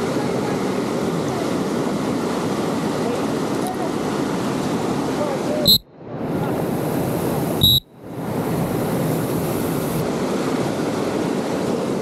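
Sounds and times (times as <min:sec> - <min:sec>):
fast river current rushing: 0:00.0 - 0:12.0.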